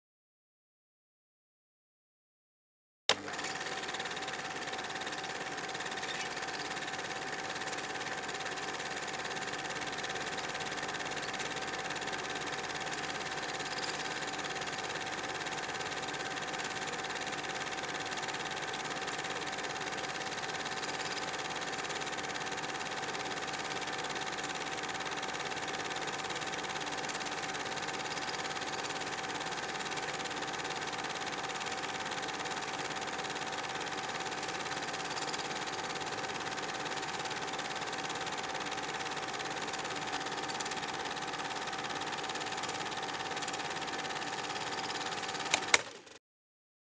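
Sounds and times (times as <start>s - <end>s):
film projector whirring: 3.1s - 46.2s.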